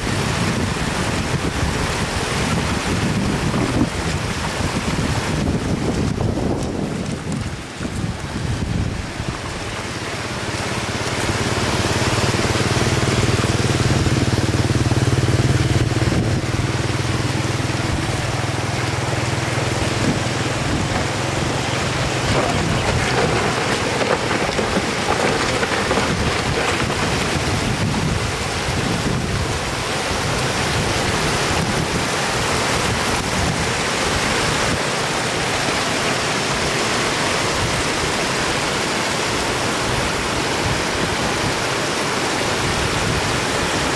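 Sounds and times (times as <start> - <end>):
floodwater rushing over road: 0.0 - 43.9.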